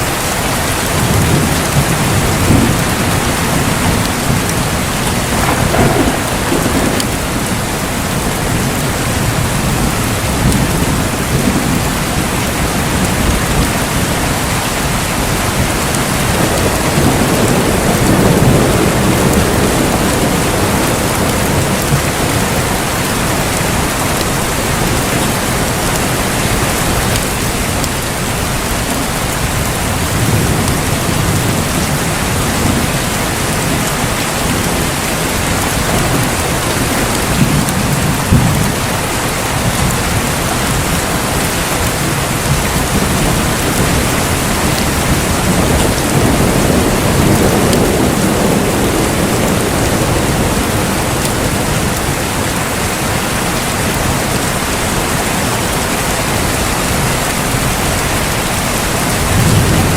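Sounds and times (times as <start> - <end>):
rolling thunder: 0.0 - 55.8, 56.4 - 59.9
heavy rain: 0.0 - 59.9.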